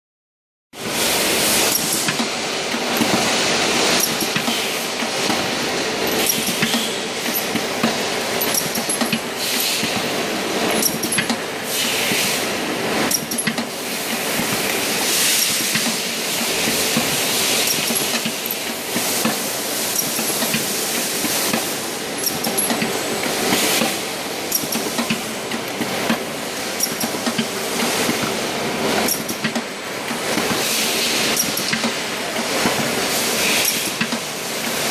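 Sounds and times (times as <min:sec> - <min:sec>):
machine hum and clatter: 0:00.8 - 0:34.9
sharp machine clack: 0:00.8 - 0:34.9.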